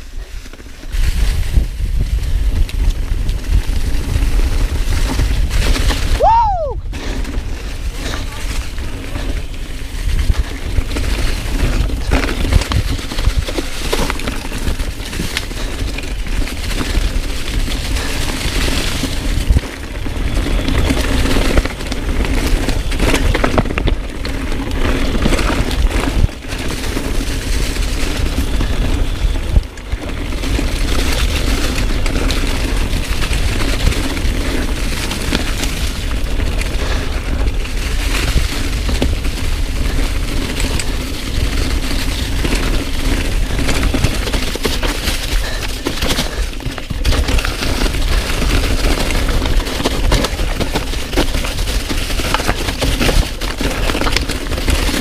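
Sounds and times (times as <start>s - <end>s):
bike rattling over rocks: 0.0s - 55.0s
wind buffeting microphone: 0.0s - 55.0s.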